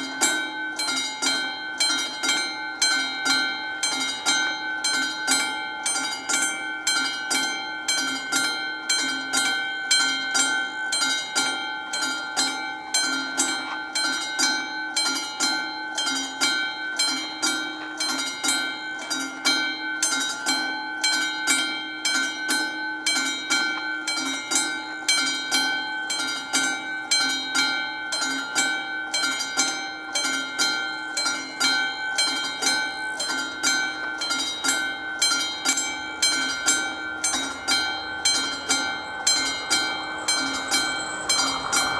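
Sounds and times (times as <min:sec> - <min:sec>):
level crossing bell ringing: 0:00.0 - 0:41.9.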